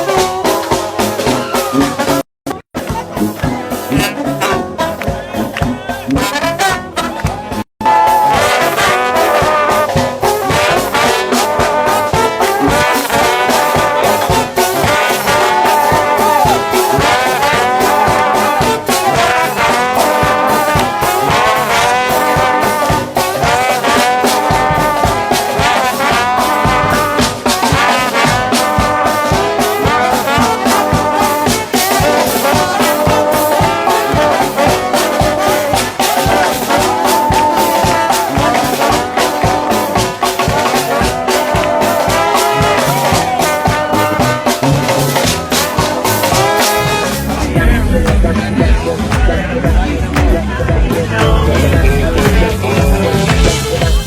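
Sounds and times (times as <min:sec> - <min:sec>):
brass band playing gospel music: 0:00.0 - 0:54.0.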